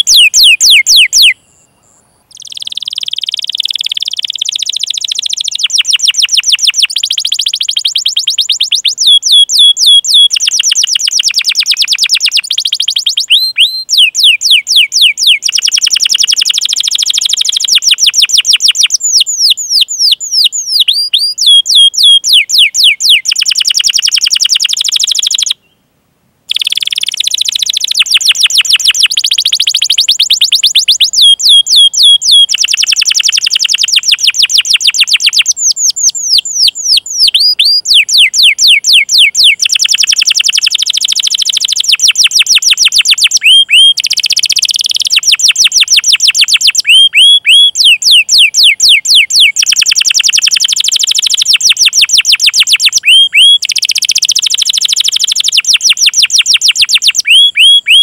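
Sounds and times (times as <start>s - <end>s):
canary trilling: 0.0s - 25.6s, 26.5s - 58.0s.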